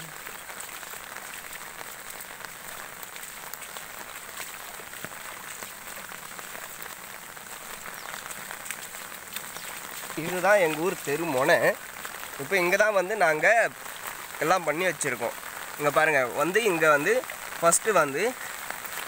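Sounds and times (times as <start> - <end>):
runoff water flowing: 0.0 - 19.0.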